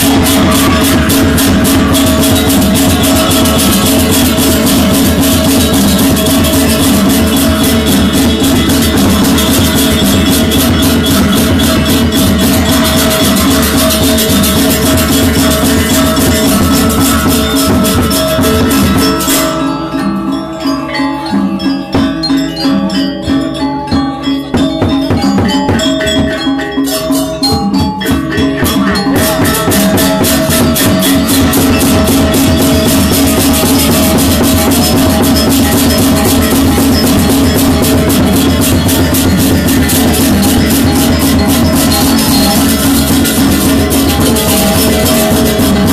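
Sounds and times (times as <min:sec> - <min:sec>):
fast rattling percussion: 0:00.0 - 0:45.9
spaced melodic notes: 0:00.0 - 0:45.9
steady drumming: 0:00.0 - 0:45.9.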